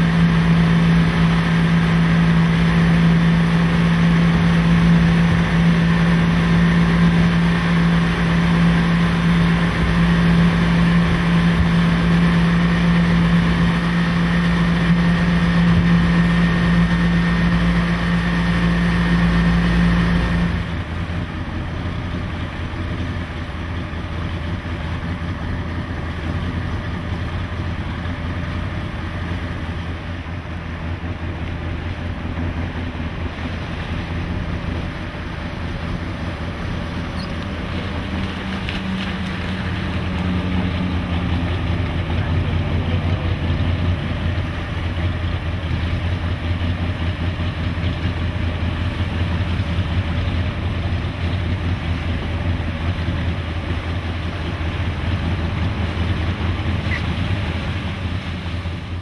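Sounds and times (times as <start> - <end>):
motorboat engine running: 0.0 - 59.0
water wash from hull: 0.0 - 59.0.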